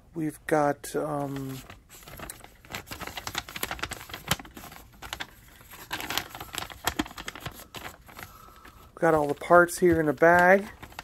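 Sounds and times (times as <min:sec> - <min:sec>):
plastic bag and paper crinkling: 0:01.0 - 0:11.0.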